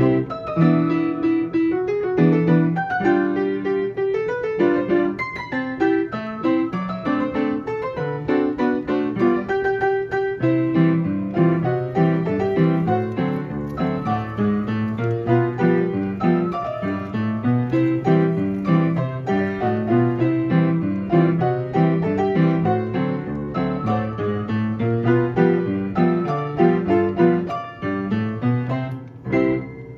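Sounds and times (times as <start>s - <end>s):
player piano playing a march: 0.0s - 29.9s.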